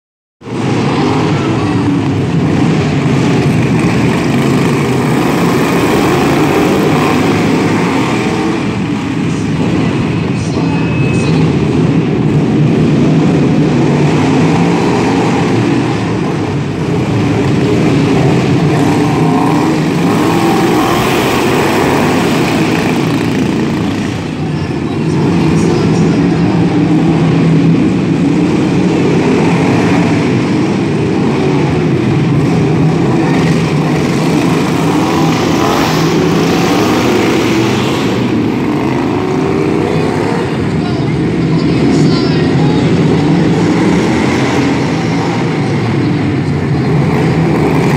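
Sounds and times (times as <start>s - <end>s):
racing lawnmower engines: 0.4s - 47.9s.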